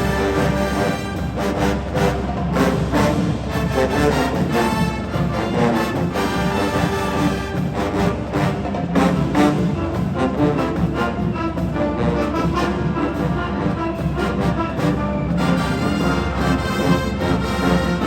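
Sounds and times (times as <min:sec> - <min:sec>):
brass horns playing tune: 0:00.0 - 0:18.0.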